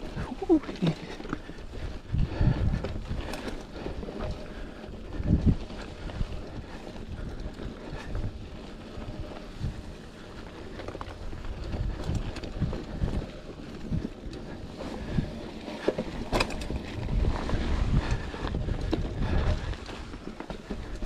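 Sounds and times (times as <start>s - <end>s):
bike knocks and rattles: 0.0s - 21.0s
bike tyres rolling on dirt: 0.0s - 21.0s
wind buffeting microphone: 0.0s - 21.0s.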